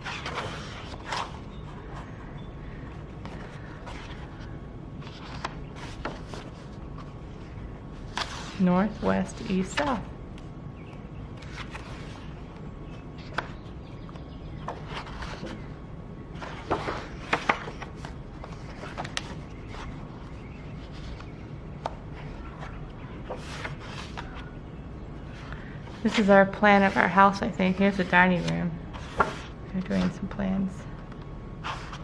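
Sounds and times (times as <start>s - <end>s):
paper pages rustling: 0.0s - 2.2s, 3.0s - 10.0s, 11.3s - 12.6s, 13.2s - 15.8s, 16.4s - 24.6s, 25.3s - 30.3s, 31.1s - 32.0s
low background hum: 0.0s - 32.0s.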